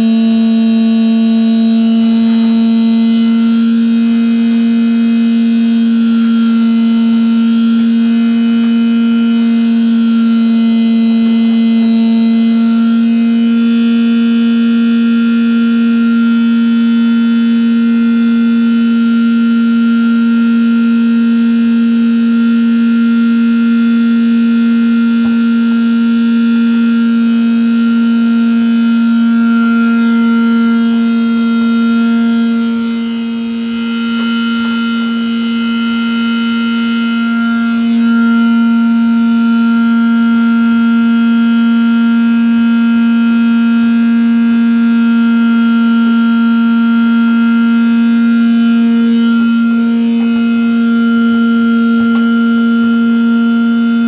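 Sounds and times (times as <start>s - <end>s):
pump humming: 0.0s - 54.0s.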